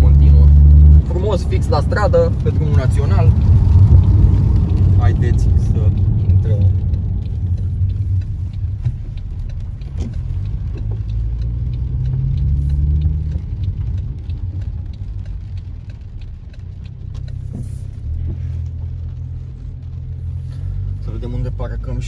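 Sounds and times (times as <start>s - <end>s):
car engine low: 0.0s - 22.0s
road rumble: 0.0s - 22.0s
faint ticks: 2.4s - 22.0s.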